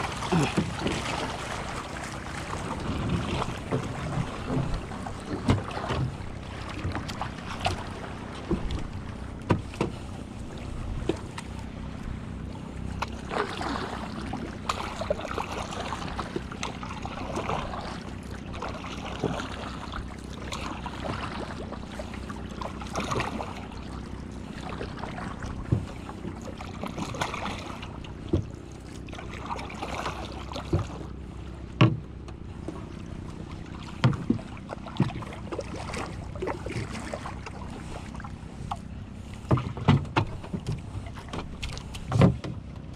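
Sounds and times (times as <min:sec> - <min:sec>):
paddle strokes splashing water: 0:00.0 - 0:42.9.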